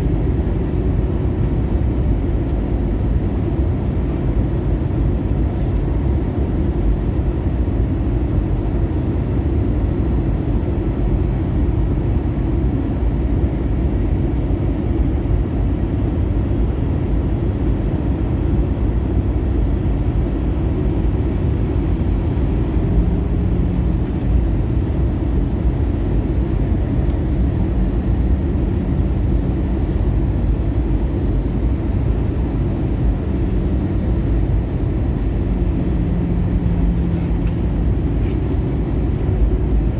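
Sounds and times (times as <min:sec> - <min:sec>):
airflow and engines rushing: 0:00.0 - 0:39.9.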